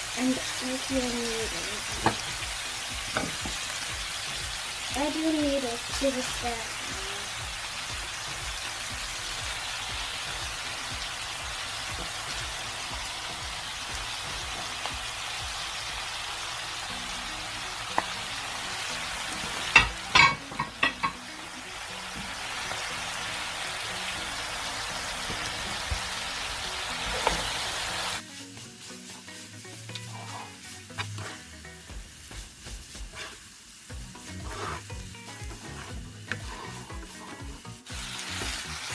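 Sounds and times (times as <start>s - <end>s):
stir-fry sizzling in a hot pan: 0.0s - 38.9s.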